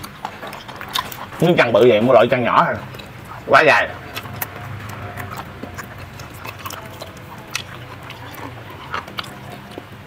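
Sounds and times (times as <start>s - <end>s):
wet mouth clicks and smacks: 0.0s - 1.4s, 2.8s - 10.0s
people chewing meat: 0.0s - 10.0s
steady low hum: 0.0s - 10.0s.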